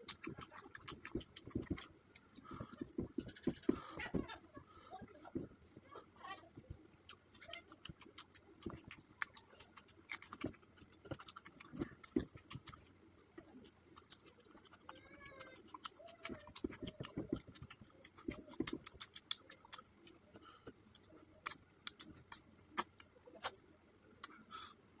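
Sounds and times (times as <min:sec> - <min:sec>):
wet chewing clicks and smacks: 0:00.0 - 0:04.3, 0:05.0 - 0:23.6, 0:24.2 - 0:24.8.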